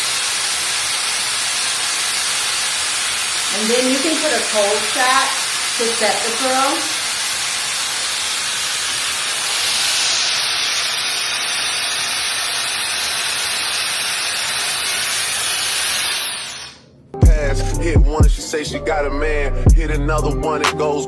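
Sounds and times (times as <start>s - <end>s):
hair styler blowing air: 0.0s - 16.9s.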